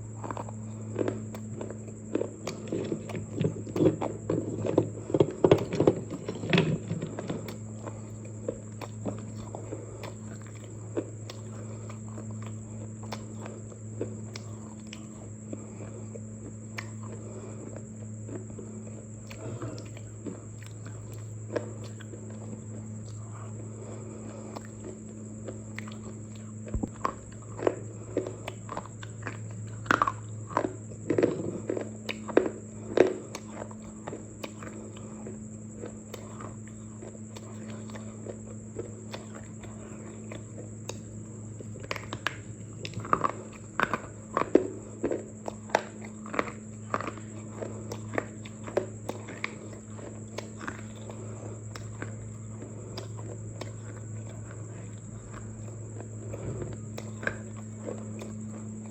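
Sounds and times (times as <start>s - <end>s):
crunchy bites and chewing: 0.0s - 58.9s
low electrical hum: 0.0s - 58.9s.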